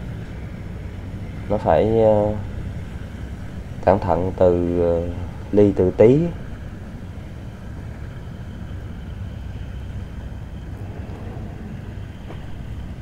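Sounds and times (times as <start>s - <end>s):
boat engines droning: 0.0s - 13.0s
noisy hiss: 0.0s - 13.0s.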